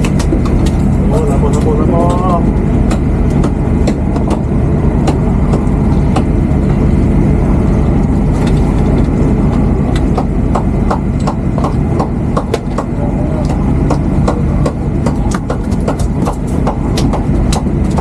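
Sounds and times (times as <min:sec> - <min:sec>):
sharp clicks and knocks: 0:00.0 - 0:06.8, 0:08.4 - 0:18.0
boat engine droning: 0:00.0 - 0:18.0.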